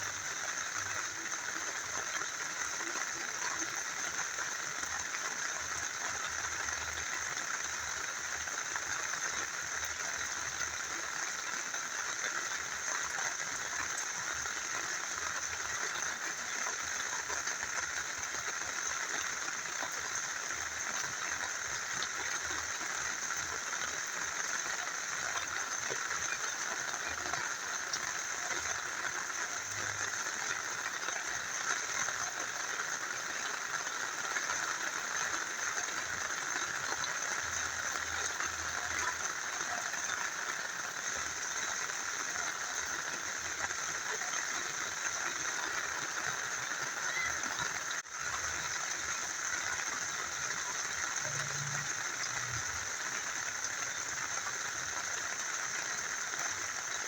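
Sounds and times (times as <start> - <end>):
rain falling: 0.0 - 57.0
small river flowing: 0.0 - 57.0.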